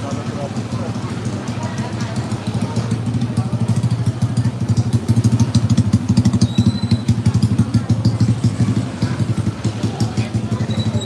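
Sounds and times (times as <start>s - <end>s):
scooter engine puttering: 0.0s - 11.0s.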